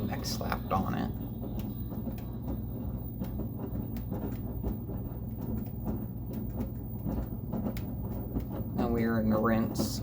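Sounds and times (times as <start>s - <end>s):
washing machine drum knocking and rattling: 0.0s - 10.0s
washing machine spinning hum: 0.0s - 10.0s.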